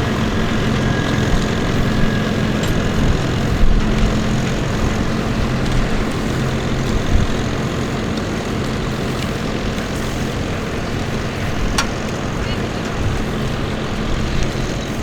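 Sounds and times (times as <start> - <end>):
low rumbling noise: 0.0 - 15.0
tractor engine hum: 0.0 - 15.0.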